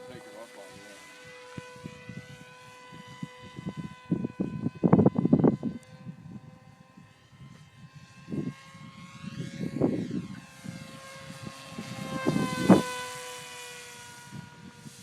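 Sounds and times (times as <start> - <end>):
wind gusts on microphone: 0.0 - 13.0, 14.1 - 15.0
model plane motor whining: 0.0 - 15.0.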